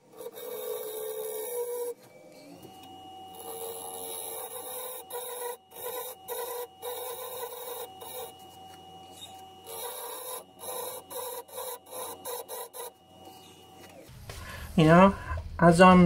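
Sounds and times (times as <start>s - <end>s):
chisel scraping wood on lathe: 0.0s - 14.0s
lathe whine: 0.0s - 14.4s.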